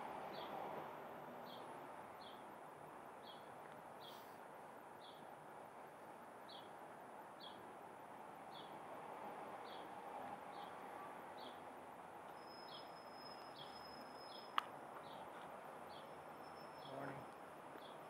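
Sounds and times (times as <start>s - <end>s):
faint city hum: 0.0s - 18.0s.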